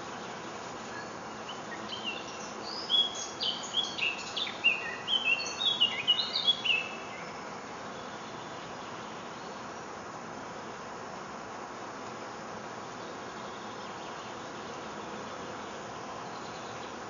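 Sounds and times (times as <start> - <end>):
songbird chirping: 0.0 - 9.8, 12.9 - 17.0
faint hiss: 0.0 - 17.0.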